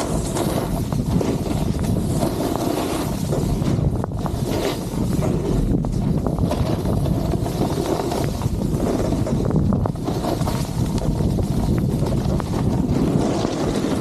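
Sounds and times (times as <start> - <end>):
snowboard hissing on snow: 0.0 - 14.0
wind buffeting microphone: 0.0 - 14.0.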